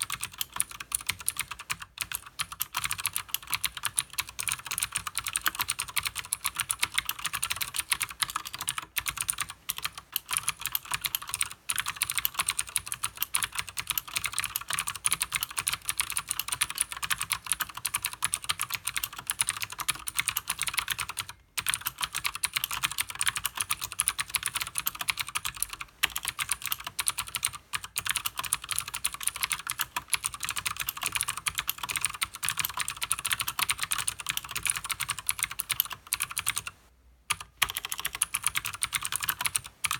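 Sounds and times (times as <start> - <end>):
clicky mechanical keyboard typing: 0.0 - 39.9.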